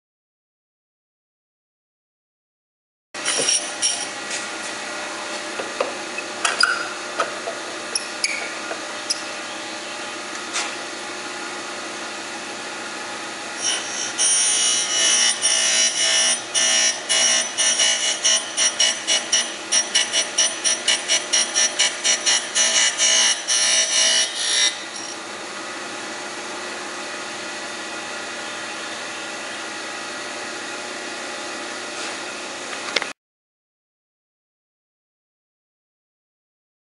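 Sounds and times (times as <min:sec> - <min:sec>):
grinder wheel whine: 0:03.2 - 0:33.0.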